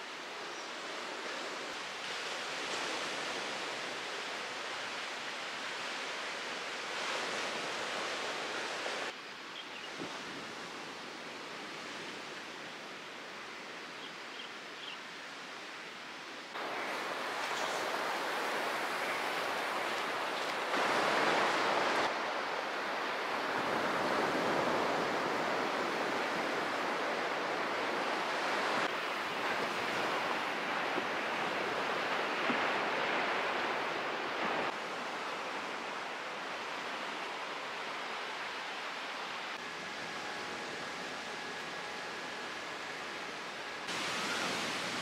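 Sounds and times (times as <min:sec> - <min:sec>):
sea waves washing on shore: 0:00.0 - 0:09.2, 0:16.3 - 0:45.0.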